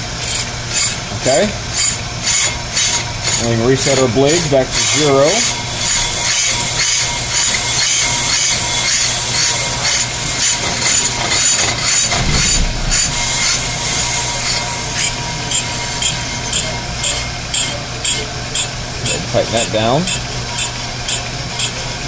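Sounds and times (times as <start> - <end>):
brake lathe humming: 0.0 - 22.0.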